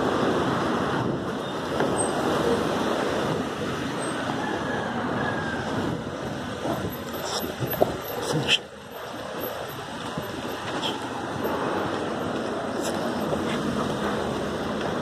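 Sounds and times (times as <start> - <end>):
street noise: 0.0 - 15.0
wind on microphone: 0.0 - 15.0.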